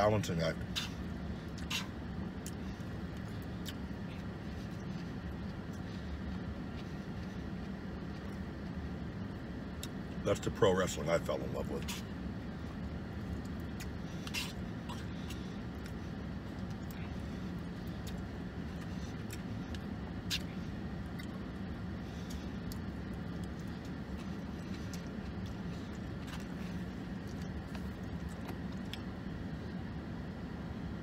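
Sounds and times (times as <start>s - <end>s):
car idling hum: 0.0s - 31.0s
faint clicks and rustles of food: 0.0s - 31.0s.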